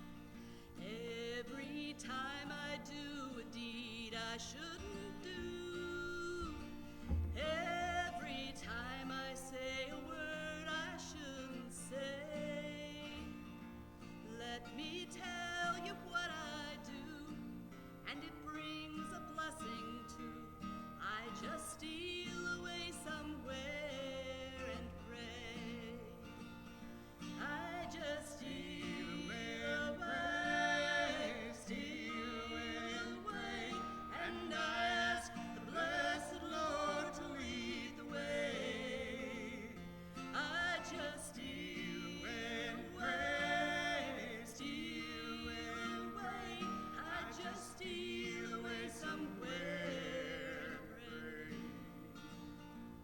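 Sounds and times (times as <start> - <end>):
acoustic guitar: 0.0 - 53.0.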